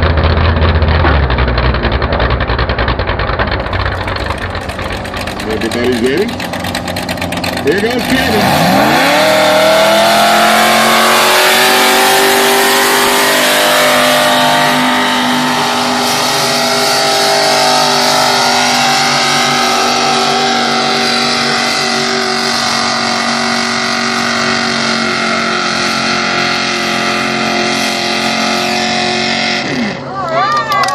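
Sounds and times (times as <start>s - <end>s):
tractor engine at full throttle: 0.0s - 30.9s.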